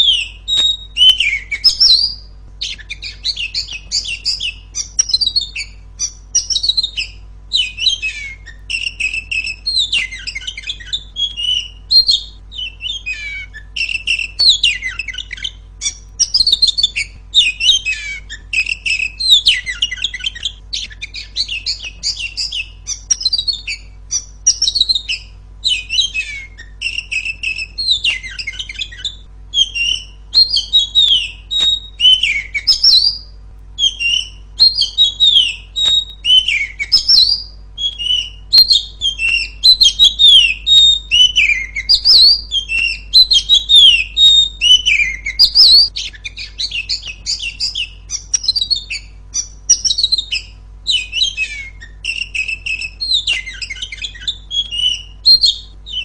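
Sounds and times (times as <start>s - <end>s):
bird singing whistles and chirps: 0.0s - 56.0s.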